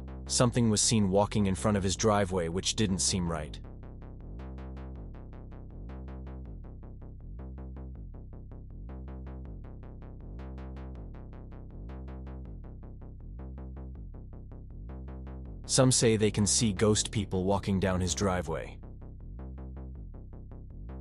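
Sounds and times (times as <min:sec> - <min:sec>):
electronic music with bass: 0:00.0 - 0:21.0.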